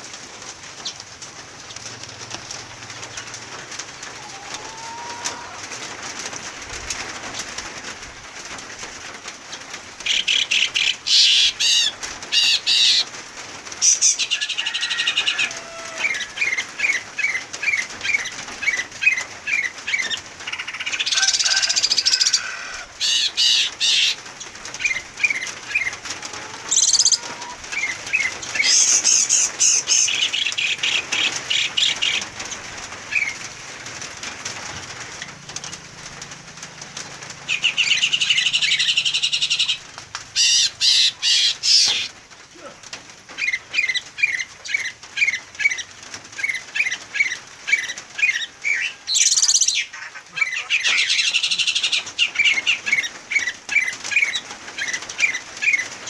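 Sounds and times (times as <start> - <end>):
wing fluttering: 0.0 - 56.0
songbirds chirping and trilling: 0.6 - 42.4, 43.2 - 56.0.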